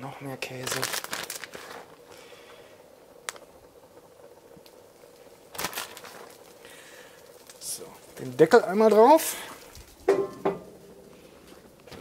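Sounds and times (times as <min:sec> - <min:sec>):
flatbread sizzling in a skillet: 0:00.4 - 0:12.0.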